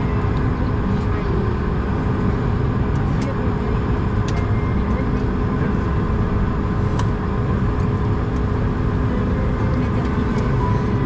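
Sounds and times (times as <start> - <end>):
jet engines idling rumble: 0.0 - 11.0
steady engine tones: 0.0 - 11.0.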